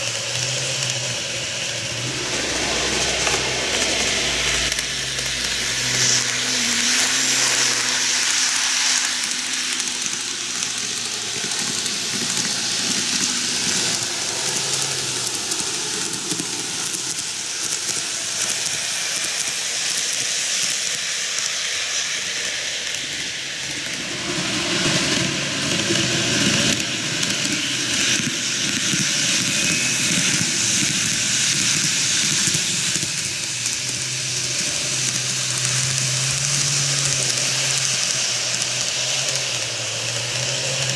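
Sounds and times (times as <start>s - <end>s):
model trains whirring: 0.0s - 40.9s.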